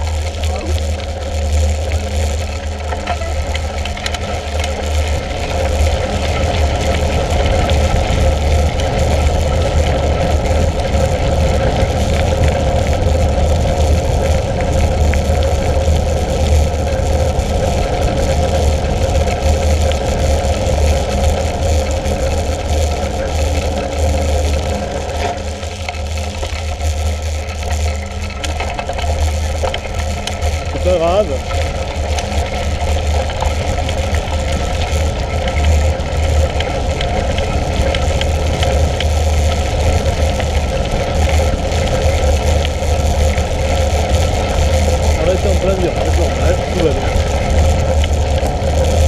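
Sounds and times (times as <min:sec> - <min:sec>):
tyres rolling over gravel: 0:00.0 - 0:49.0.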